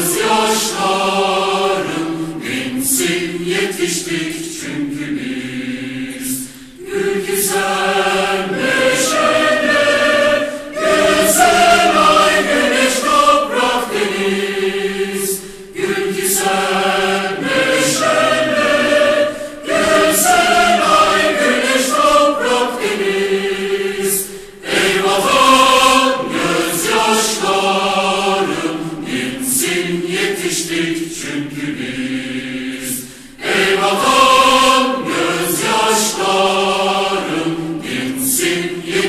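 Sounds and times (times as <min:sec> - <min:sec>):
choir singing a march: 0:00.0 - 0:39.0.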